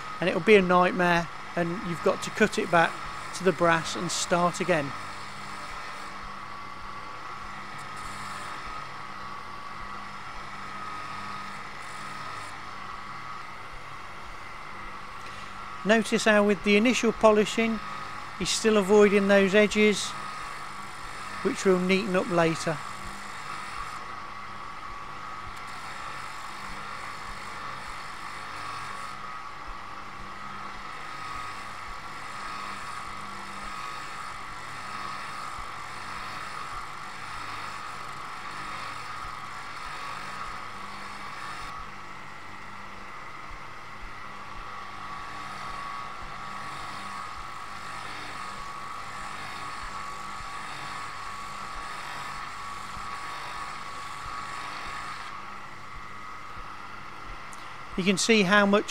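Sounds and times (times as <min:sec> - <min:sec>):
lathe motor whine: 0:00.0 - 0:58.9.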